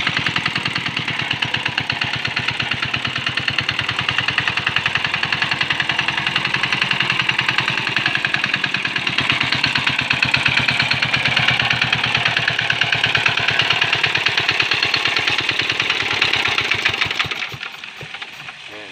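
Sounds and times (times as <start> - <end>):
small diesel engine chugging: 0.0 - 18.9.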